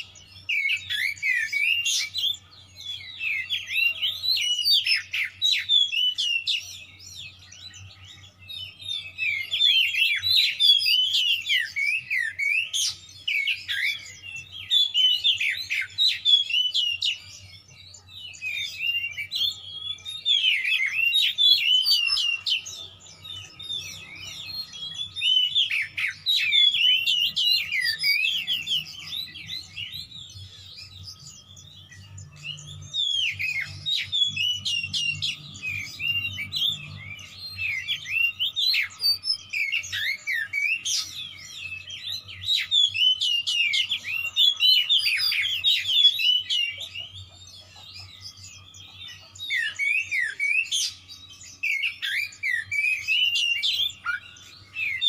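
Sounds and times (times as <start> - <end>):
bird singing whistles and chirps: 0.0 - 55.0.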